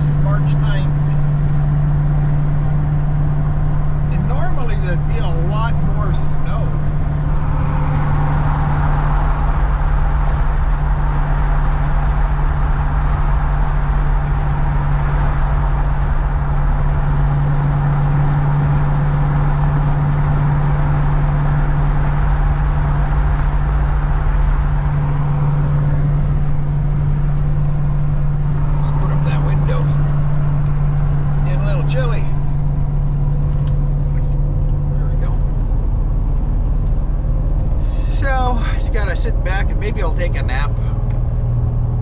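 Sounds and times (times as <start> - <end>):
engine and tyre drone inside cab: 0.0 - 42.0.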